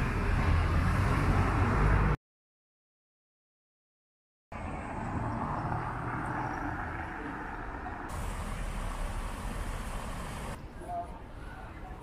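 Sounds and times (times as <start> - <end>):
city traffic hum: 0.0 - 2.2, 4.5 - 12.0.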